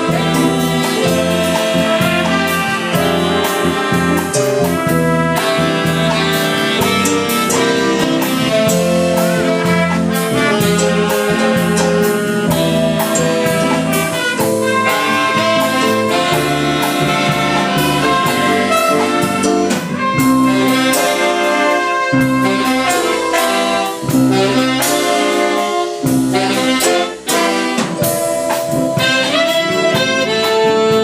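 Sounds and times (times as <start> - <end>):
jazzy horn section: 0.0 - 31.0
steady drum beat: 0.0 - 31.0.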